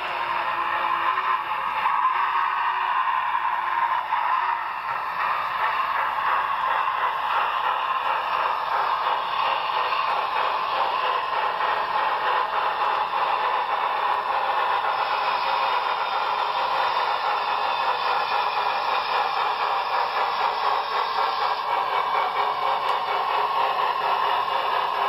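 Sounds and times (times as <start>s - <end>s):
model train rolling: 0.0s - 25.0s.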